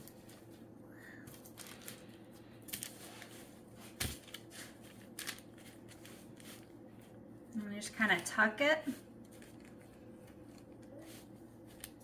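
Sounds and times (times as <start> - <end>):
parchment paper crinkling: 0.0 - 7.2, 8.1 - 12.0
soft dough handling: 0.0 - 12.0.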